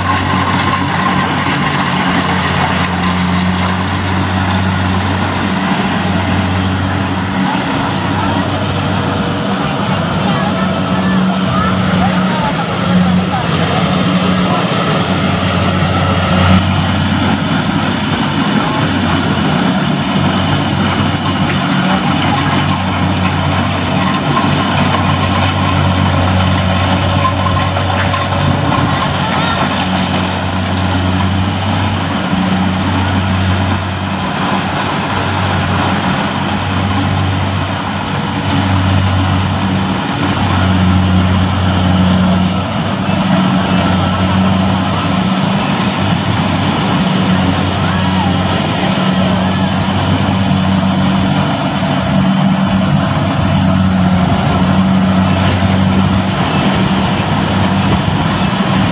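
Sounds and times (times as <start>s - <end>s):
diesel engine running: 0.0s - 58.9s
harvesting mechanism clatter: 0.0s - 58.9s.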